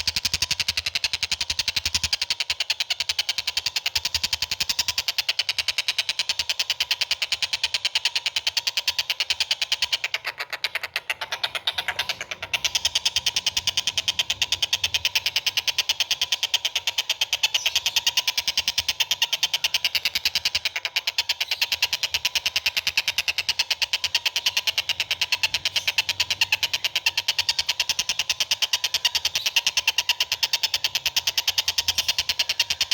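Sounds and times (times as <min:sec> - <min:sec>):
bird chattering call: 0:00.0 - 0:32.9.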